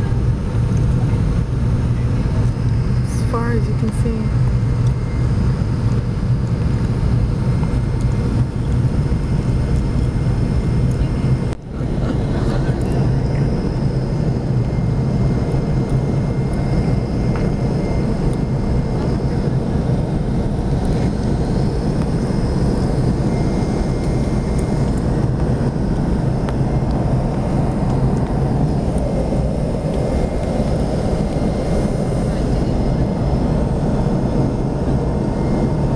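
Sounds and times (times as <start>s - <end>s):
aircraft cabin engine hum: 0.0s - 35.9s
faint steady whines: 0.0s - 35.9s.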